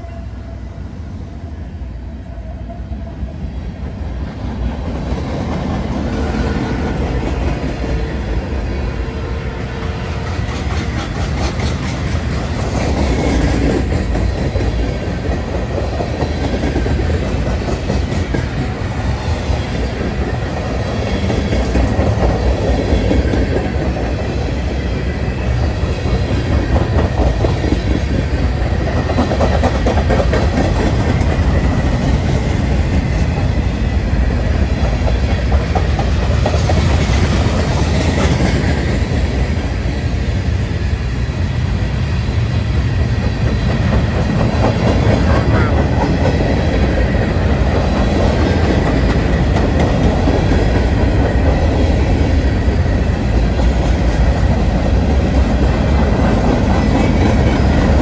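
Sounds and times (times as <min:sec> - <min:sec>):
train rumble: 0:00.0 - 0:58.0
train wheels clickety-clack: 0:03.7 - 0:58.0.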